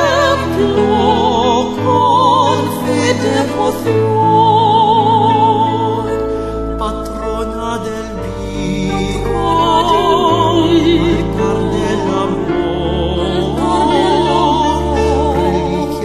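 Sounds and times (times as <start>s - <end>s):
classical voice singing a hymn: 0.0s - 16.0s
instrumental accompaniment: 0.0s - 16.0s.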